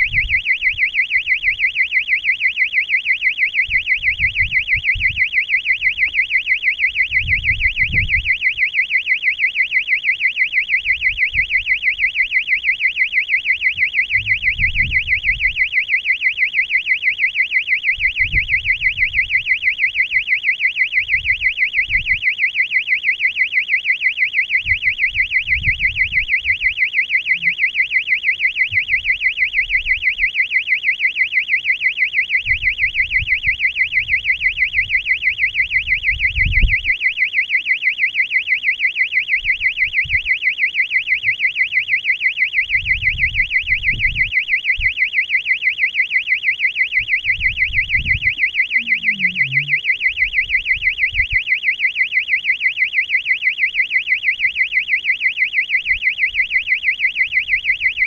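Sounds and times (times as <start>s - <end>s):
high-pitched alarm beeping: 0.0s - 58.0s.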